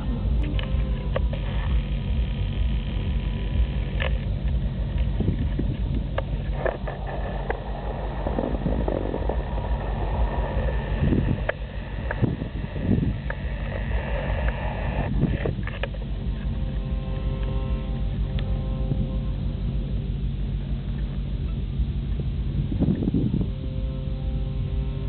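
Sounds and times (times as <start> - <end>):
strong wind buffeting microphone: 0.0 - 17.4, 18.0 - 25.0.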